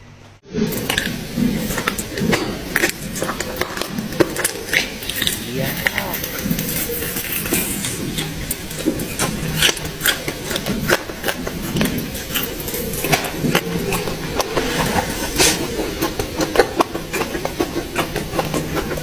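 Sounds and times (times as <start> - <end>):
steady low hum: 0.0 - 19.0
person biting and chewing: 0.6 - 19.0.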